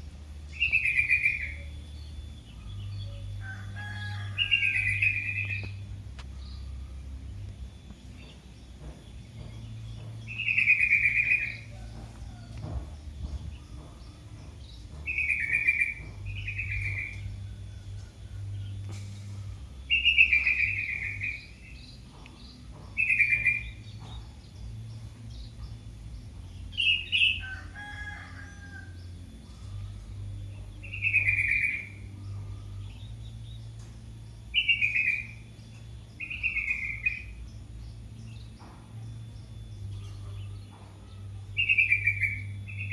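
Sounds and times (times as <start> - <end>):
low hum: 0.0 - 42.9.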